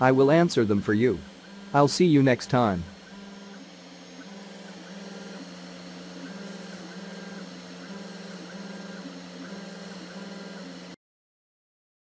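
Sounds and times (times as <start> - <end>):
mill spindle running: 0.0 - 11.0
stepper motors whining: 0.0 - 11.0.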